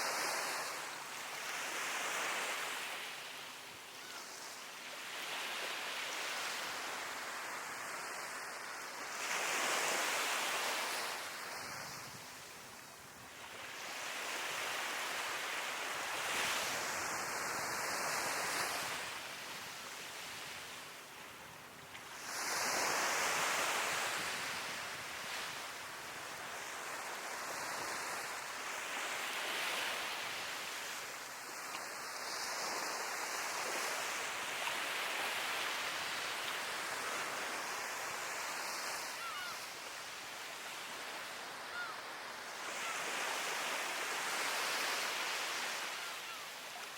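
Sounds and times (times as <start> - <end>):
sea waves breaking on a beach: 0.0 - 46.9.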